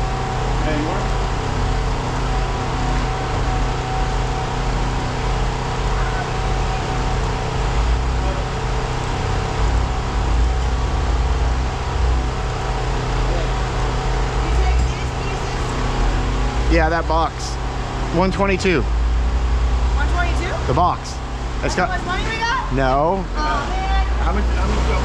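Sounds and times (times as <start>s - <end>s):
machine drone: 0.0s - 25.0s.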